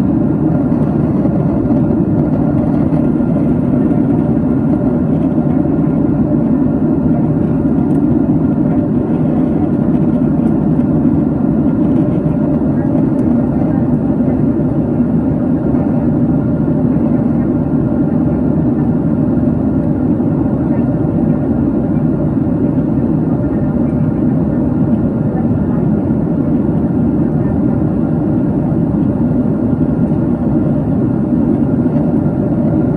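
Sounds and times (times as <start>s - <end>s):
jet engines and rushing air: 0.0s - 32.9s.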